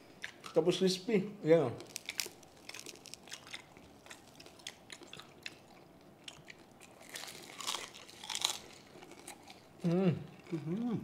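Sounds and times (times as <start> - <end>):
crunchy chewing: 1.8 - 11.0.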